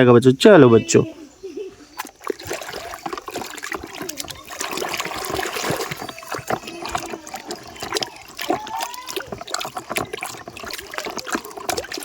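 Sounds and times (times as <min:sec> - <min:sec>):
water splashing and trickling: 0:00.8 - 0:12.0.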